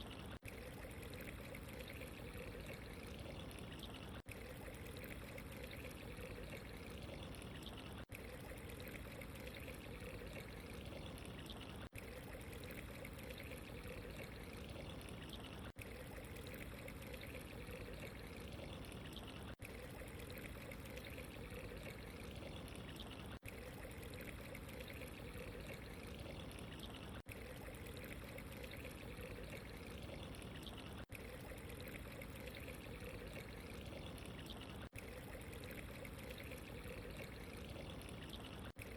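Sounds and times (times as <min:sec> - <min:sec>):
water trickling and pouring: 0:00.0 - 0:38.9.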